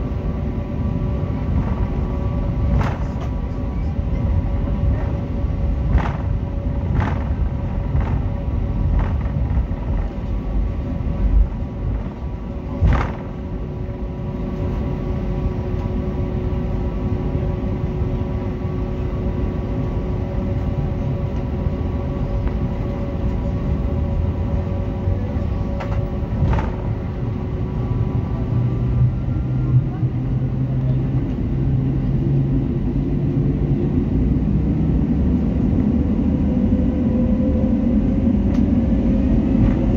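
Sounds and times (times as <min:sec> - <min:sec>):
jet engines idling whine: 0:00.0 - 0:39.9.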